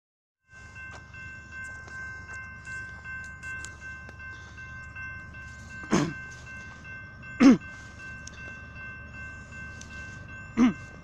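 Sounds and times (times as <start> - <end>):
crossing bell ringing: 0.4 - 11.0
train rumble: 0.5 - 11.0.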